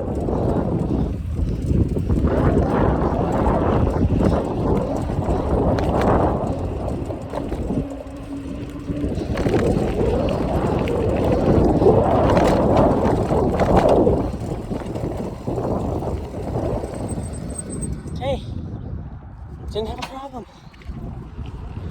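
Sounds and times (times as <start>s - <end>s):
bike chain rattling clicks: 0.0s - 18.2s
wind rushing over microphone: 0.0s - 21.9s.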